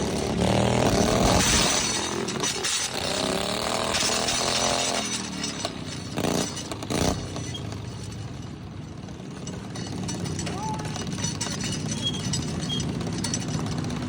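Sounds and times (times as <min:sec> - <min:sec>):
lawnmower engines revving: 0:00.0 - 0:14.0.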